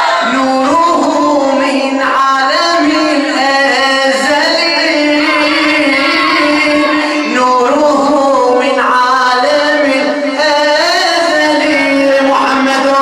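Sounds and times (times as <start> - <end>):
person singing devotional song: 0.0 - 13.0.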